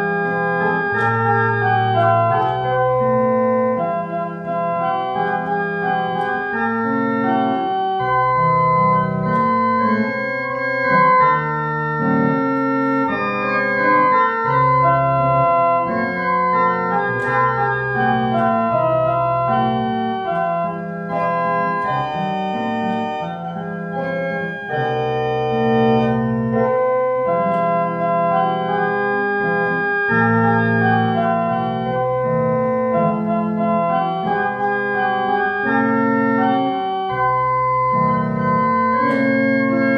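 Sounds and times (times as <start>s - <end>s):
church organ playing a hymn: 0.0s - 39.9s.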